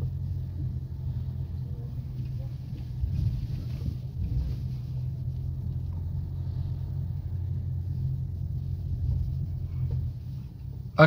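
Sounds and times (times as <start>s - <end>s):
truck engine low rumble: 0.0s - 11.0s.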